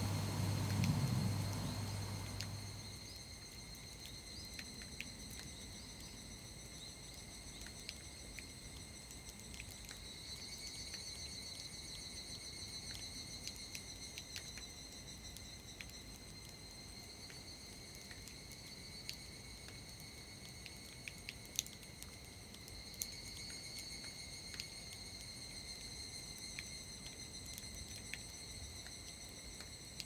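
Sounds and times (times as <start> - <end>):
water drips: 0.0 - 6.2, 7.1 - 30.0.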